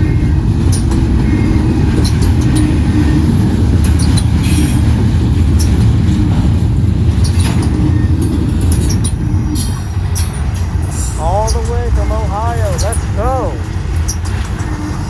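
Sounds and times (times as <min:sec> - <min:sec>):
train cars clicking and clanking: 0:00.0 - 0:15.0
train wheels rumbling on rail: 0:00.0 - 0:15.0.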